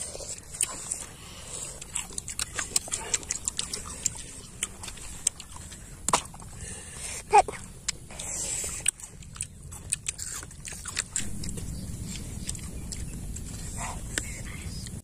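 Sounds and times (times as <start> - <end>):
fruit crunching while chewed: 0.0 - 15.0.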